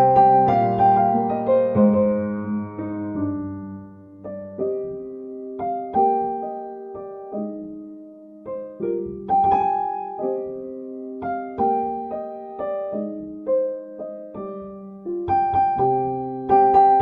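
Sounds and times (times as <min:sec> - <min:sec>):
soft solo piano: 0:00.0 - 0:17.0.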